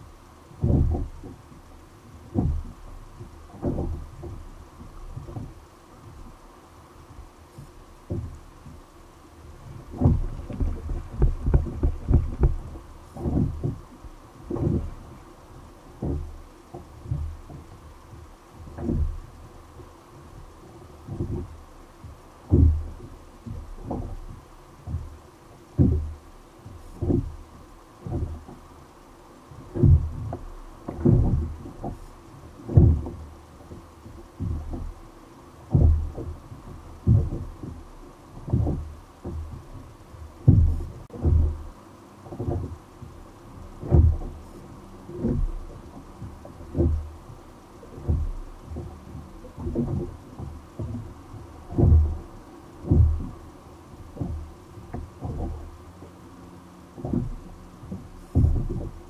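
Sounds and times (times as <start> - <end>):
water knocking against kayak hull: 0.0 - 59.0.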